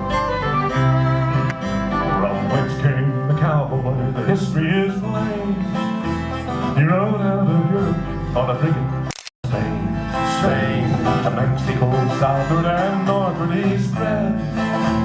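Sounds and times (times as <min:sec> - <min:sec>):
acoustic guitar: 0:00.0 - 0:15.0
string band playing: 0:00.0 - 0:15.0.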